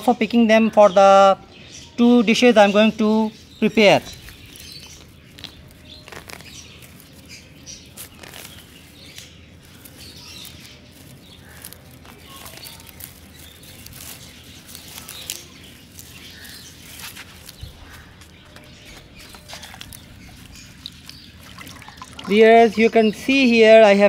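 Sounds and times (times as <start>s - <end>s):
rustling of leaves and stems: 3.0s - 24.0s
plants pulled from wet soil: 4.0s - 23.4s.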